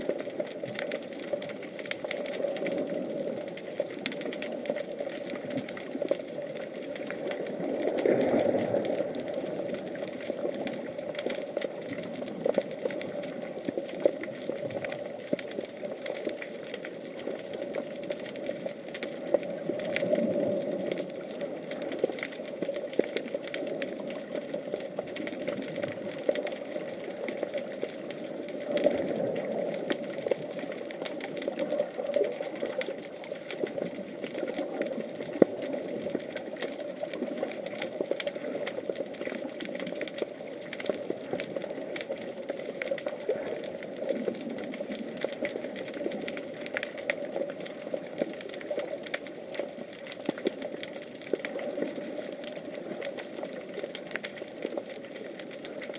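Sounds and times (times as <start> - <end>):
crackling clicks: 0.0 - 55.9
muffled underwater rush: 0.0 - 55.9.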